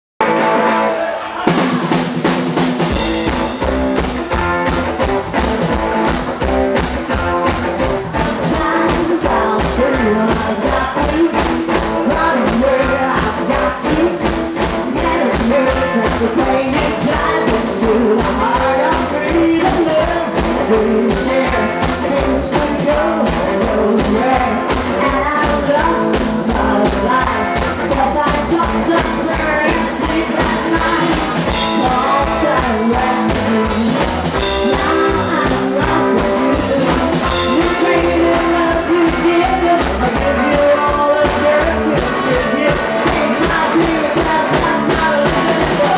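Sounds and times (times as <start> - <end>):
drum kit keeping a steady beat: 1.4 - 45.9
hollow-body electric guitar: 1.5 - 45.9
upright double bass: 2.8 - 43.6
woman singing: 7.4 - 45.9.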